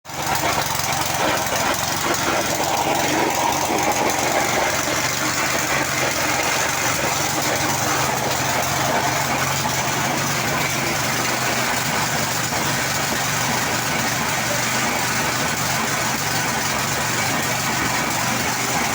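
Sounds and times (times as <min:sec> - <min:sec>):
concrete vibrator engine humming: 0:00.1 - 0:18.9.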